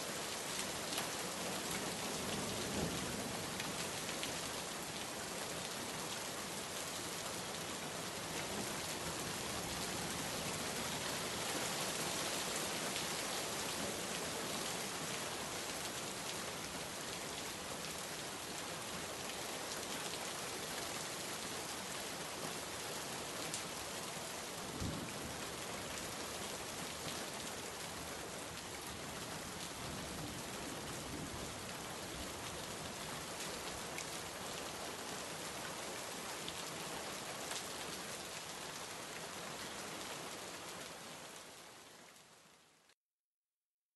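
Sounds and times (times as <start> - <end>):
steady rain hiss: 0.0 - 42.9.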